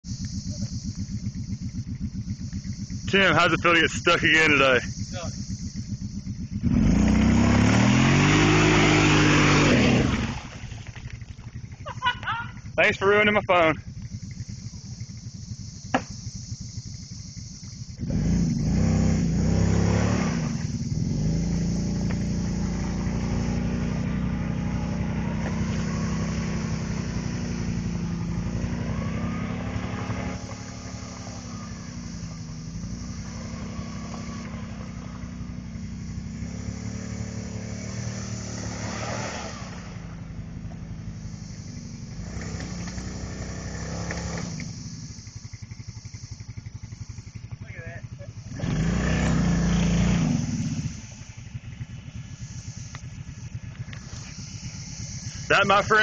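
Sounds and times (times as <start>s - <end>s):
quad bike engine revving: 0.0s - 56.0s
wheels spinning in mud: 0.1s - 15.8s, 16.8s - 56.0s.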